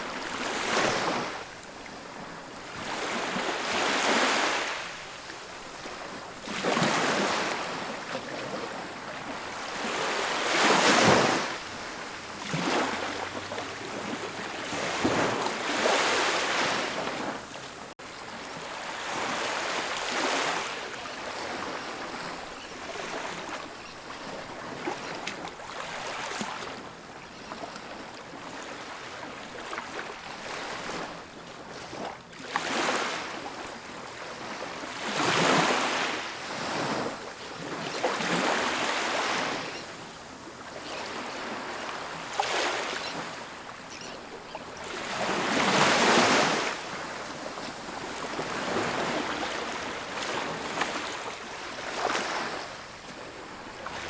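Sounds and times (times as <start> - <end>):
ocean surf breaking on beach: 0.0 - 27.1, 28.0 - 54.0.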